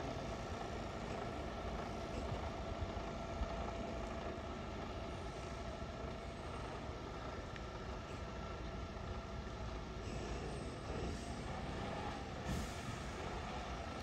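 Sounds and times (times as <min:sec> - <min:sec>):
lorry diesel engine rumbling: 0:00.0 - 0:14.0.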